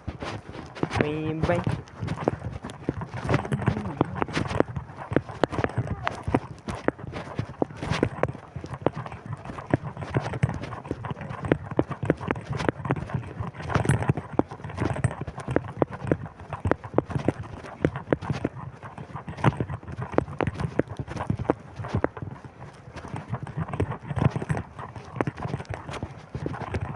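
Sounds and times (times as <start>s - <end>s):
footsteps clicking: 0.0s - 26.9s
wind rumbling on microphone: 0.0s - 26.9s.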